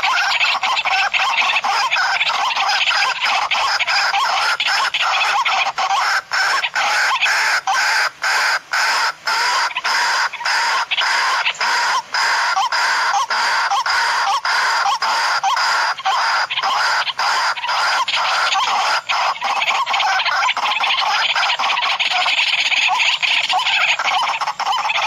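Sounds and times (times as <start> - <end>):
waterhen clucking call: 0.0 - 25.0.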